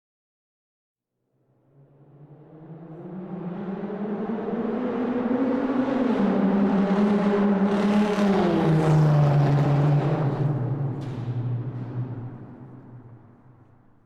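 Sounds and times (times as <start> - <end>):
car engine in a tunnel: 1.3 - 14.0.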